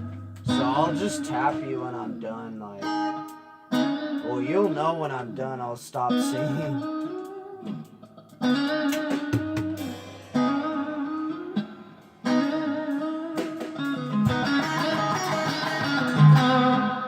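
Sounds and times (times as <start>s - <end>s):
guitar ringing chords: 0.0s - 17.0s.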